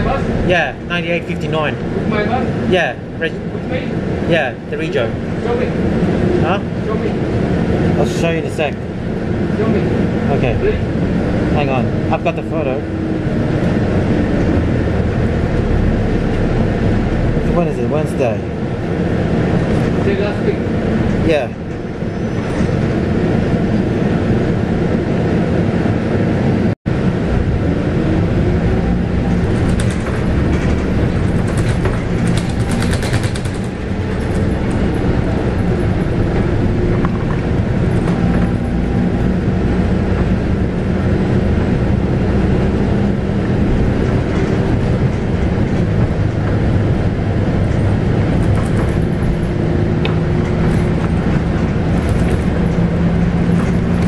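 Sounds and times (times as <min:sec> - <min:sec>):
bus diesel engine running: 0:00.0 - 0:54.0
road rumble: 0:00.0 - 0:54.0.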